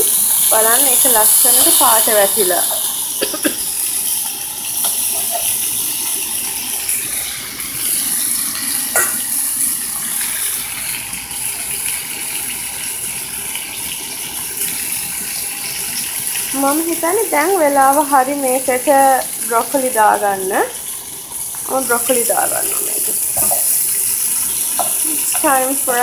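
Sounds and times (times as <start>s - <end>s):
chicken sizzling in skillet: 0.0s - 26.0s.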